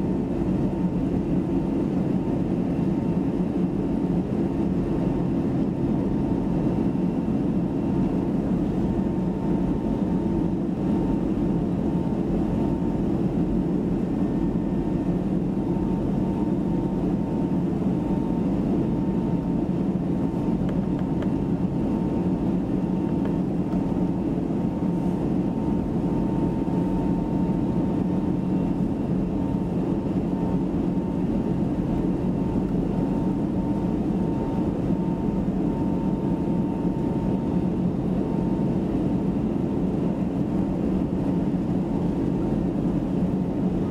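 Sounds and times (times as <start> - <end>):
airplane cabin engine rush: 0.0 - 43.9
faint steady whine: 0.0 - 43.9.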